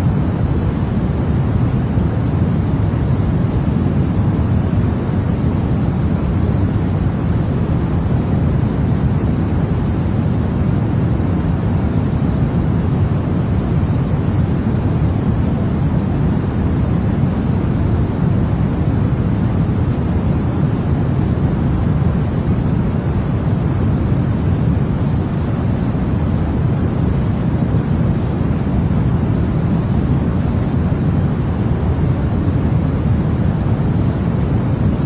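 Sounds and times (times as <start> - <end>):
deep white noise hiss: 0.0 - 35.0.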